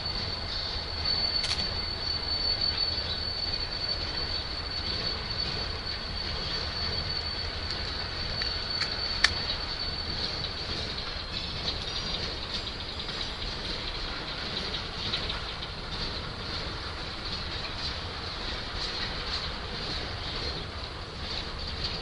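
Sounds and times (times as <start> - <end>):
train wheel squeal: 0.0 - 22.0
train wheels rumbling on rails: 0.0 - 22.0.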